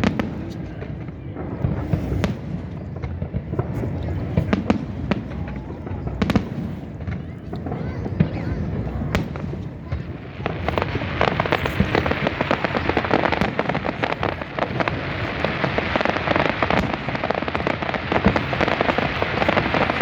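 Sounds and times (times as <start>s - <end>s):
fireworks crackling and banging: 0.0s - 20.0s.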